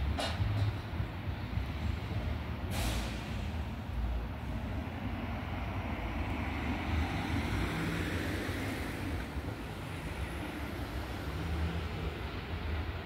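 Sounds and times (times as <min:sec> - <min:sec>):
distant vehicles: 0:00.0 - 0:13.0
street ambience hiss: 0:00.0 - 0:13.0.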